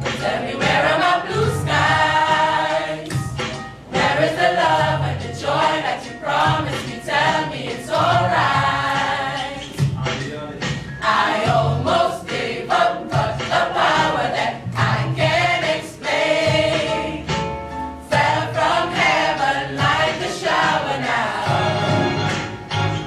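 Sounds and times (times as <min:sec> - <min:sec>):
choir singing: 0:00.0 - 0:03.1, 0:03.9 - 0:09.8, 0:11.0 - 0:17.4, 0:18.0 - 0:22.5.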